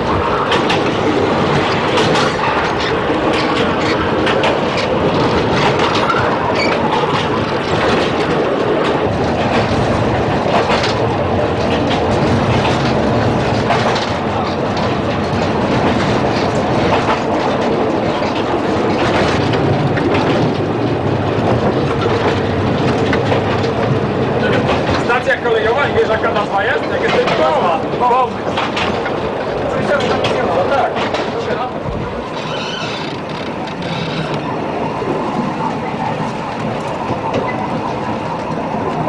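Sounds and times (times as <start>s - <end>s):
train carriage rumbling: 0.0s - 39.0s
wheels clicking over rail joints: 0.0s - 39.0s.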